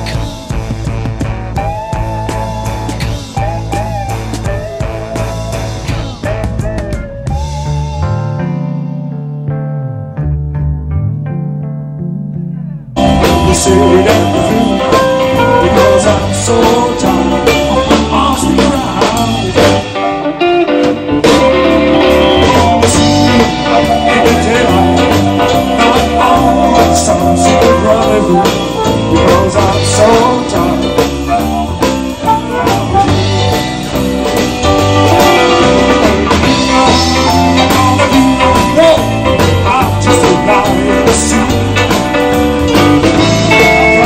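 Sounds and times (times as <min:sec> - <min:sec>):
blues band playing: 0:00.0 - 0:44.0.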